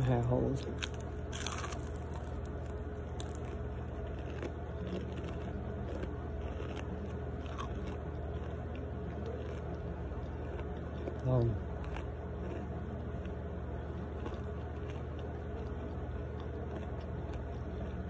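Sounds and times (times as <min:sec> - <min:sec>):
person chewing: 0:00.6 - 0:18.0
person crunching a snack: 0:00.6 - 0:18.0.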